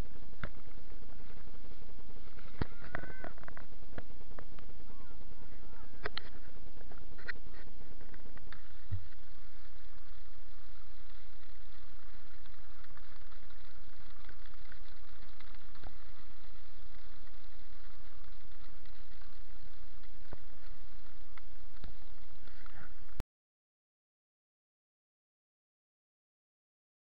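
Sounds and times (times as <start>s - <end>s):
wind rumbling on microphone: 0.0s - 23.2s.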